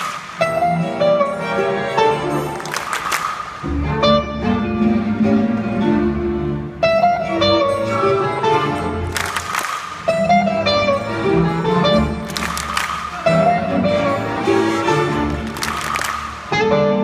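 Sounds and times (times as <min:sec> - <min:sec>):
orchestra with electric guitar: 0:00.3 - 0:02.9, 0:03.6 - 0:17.0.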